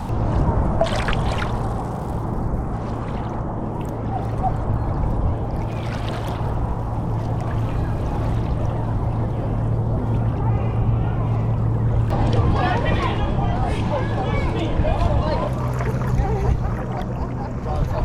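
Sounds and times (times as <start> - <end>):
splashy paddle strokes: 0.0 - 17.2
steady low hum: 0.0 - 18.0
water sloshing around kayak: 0.0 - 18.0.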